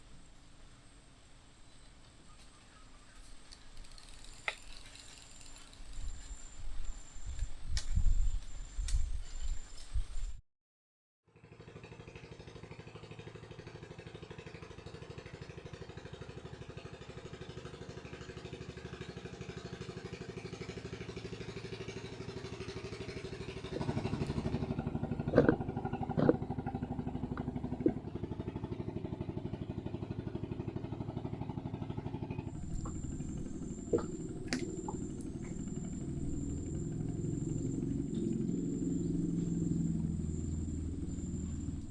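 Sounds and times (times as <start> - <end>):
small boat motor running: 2.2 - 7.3, 11.3 - 41.9.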